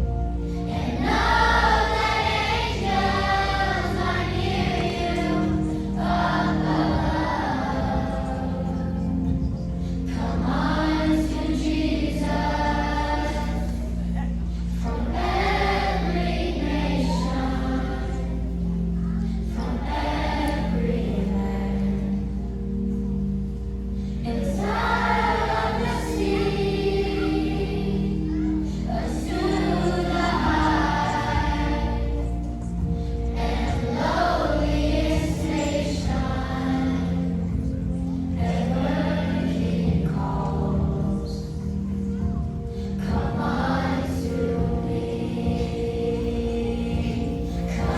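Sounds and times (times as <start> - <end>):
youth choir singing: 0.0 - 22.8, 24.2 - 47.9
musical accompaniment: 0.0 - 47.9.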